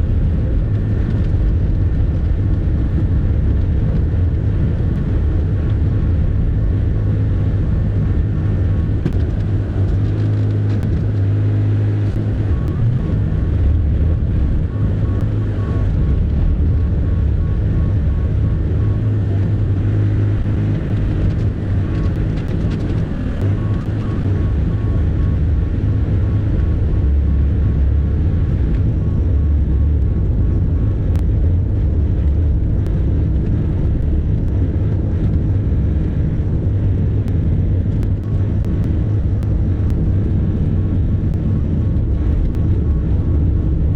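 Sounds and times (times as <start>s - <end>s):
excavator diesel engine drone: 0.0s - 43.9s.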